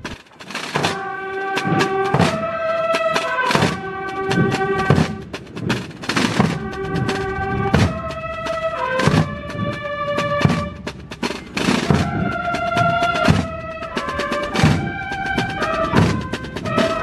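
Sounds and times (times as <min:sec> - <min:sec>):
drum strokes: 0:00.0 - 0:17.0
bugles playing held notes: 0:00.4 - 0:17.0.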